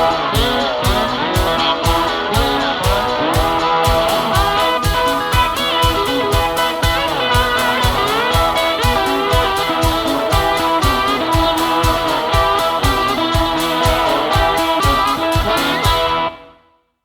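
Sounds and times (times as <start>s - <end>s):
background music with steady beat: 0.0s - 16.4s.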